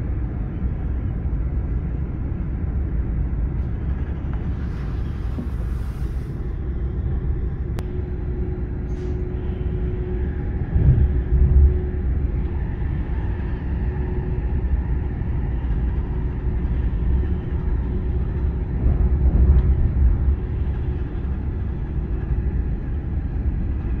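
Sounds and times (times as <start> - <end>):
faint constant hum: 0.0 - 24.0
train wheels rumbling on rails: 0.0 - 24.0.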